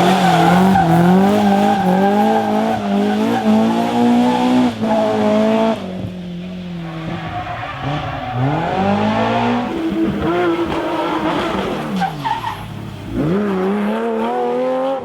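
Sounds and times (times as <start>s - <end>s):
car accelerating: 0.0s - 15.0s
rally car engine revving: 0.0s - 15.0s.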